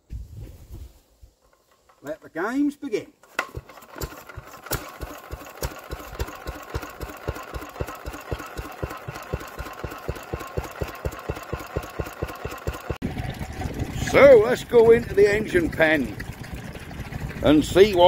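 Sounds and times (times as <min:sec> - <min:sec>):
single-cylinder engine running: 0:03.3 - 0:18.0.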